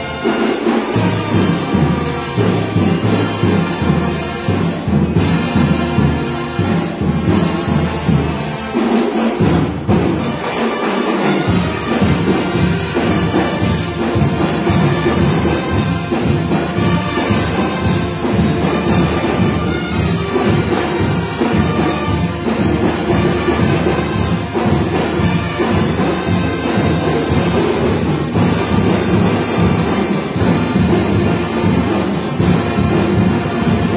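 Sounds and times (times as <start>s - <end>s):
steady drum beat: 0.0s - 33.9s
trumpets: 0.0s - 33.9s.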